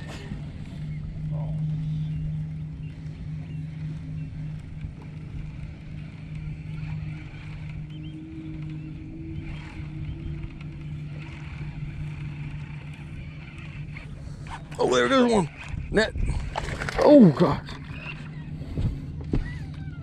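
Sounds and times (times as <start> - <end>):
electric trolling motor humming: 0.0 - 20.0
low rumble: 0.0 - 20.0.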